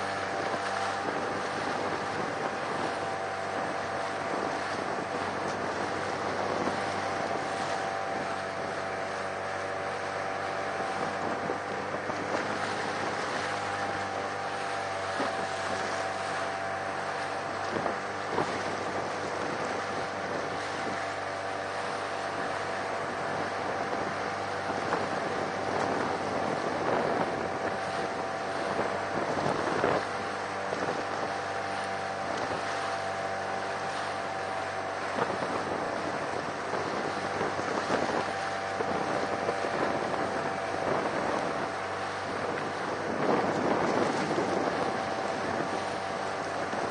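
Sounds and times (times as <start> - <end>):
boat engine humming: 0.0 - 46.9
water rushing along hull: 0.0 - 46.9
wind buffeting microphone: 0.0 - 46.9.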